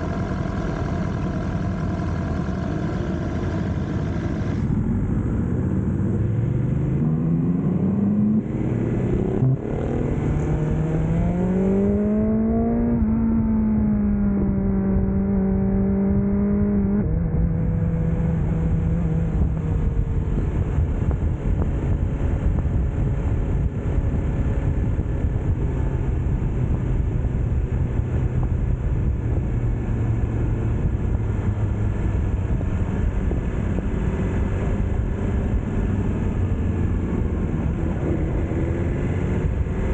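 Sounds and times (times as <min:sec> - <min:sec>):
motorcycle engine accelerating: 0:00.0 - 0:39.9
wind and road rush: 0:00.0 - 0:39.9.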